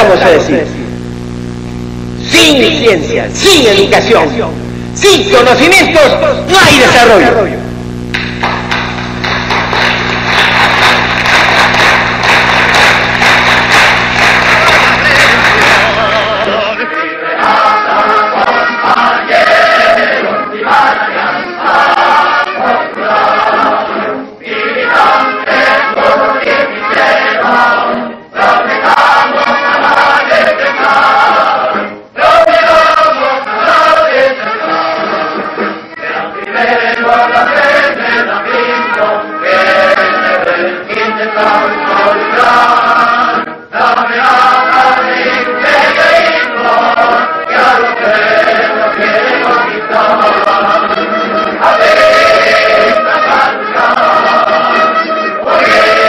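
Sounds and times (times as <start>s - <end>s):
choir singing: 9.5s - 56.0s.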